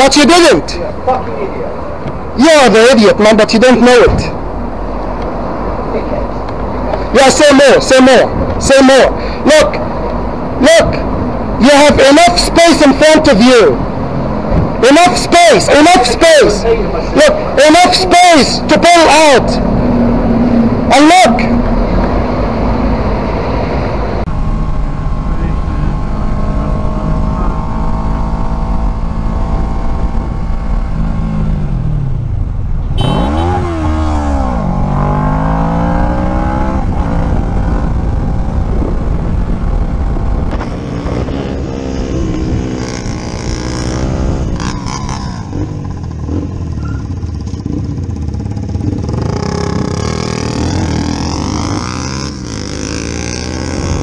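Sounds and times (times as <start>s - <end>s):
motorcycle engine revving: 9.7s - 54.0s.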